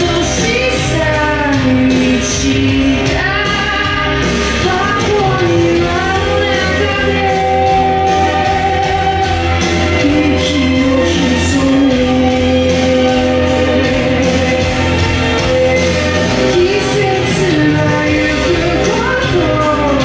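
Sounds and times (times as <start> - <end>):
song over loudspeakers: 0.0 - 20.0.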